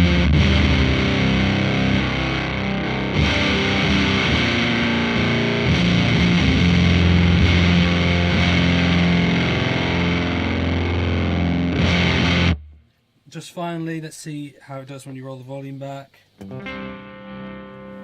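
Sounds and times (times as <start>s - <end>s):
fuzzed electric guitar chords: 0.0s - 12.9s, 16.4s - 18.0s.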